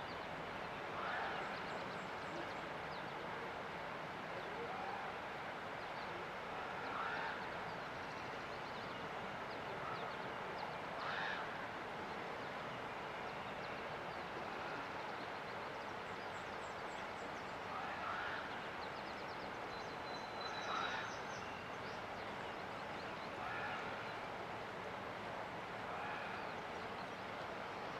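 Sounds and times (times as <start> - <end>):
songbirds chirping: 5.4 - 27.9.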